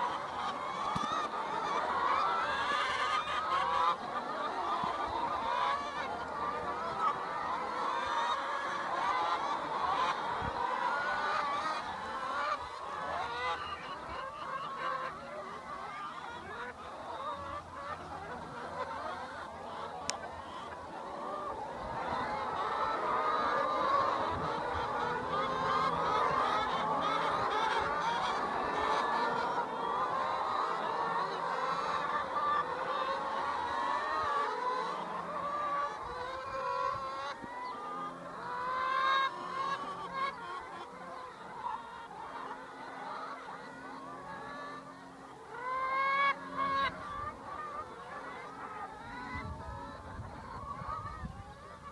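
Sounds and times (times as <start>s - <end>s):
hens clucking and calling: 0.0s - 51.9s.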